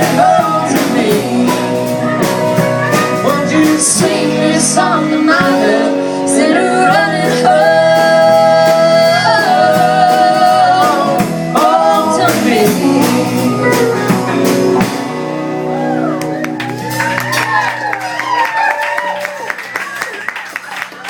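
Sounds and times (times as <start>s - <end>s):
voices singing long notes: 0.0s - 17.0s.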